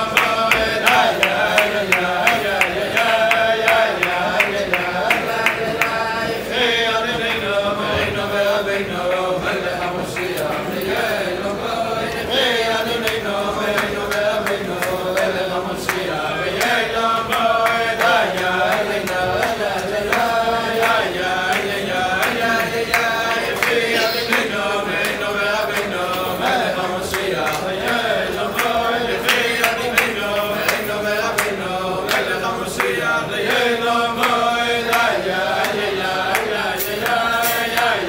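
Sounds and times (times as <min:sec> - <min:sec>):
men singing a chant: 0:00.0 - 0:38.0.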